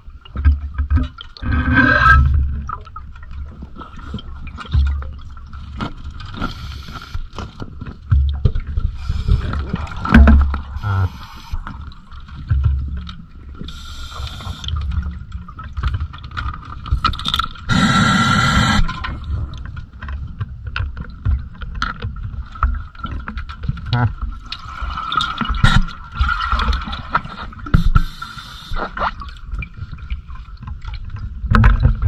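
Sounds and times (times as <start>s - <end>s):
underwater breathing and bubbles: 0.0s - 32.0s.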